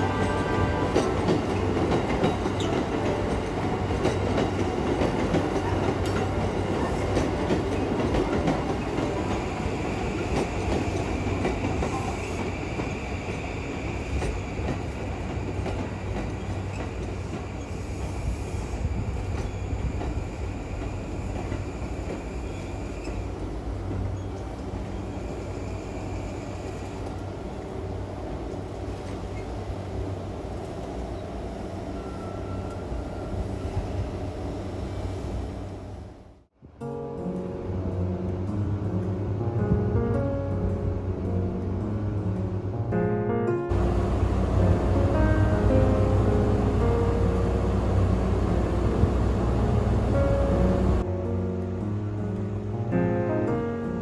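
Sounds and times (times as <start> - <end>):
train rumbling on rails: 0.0 - 36.5, 43.6 - 52.7.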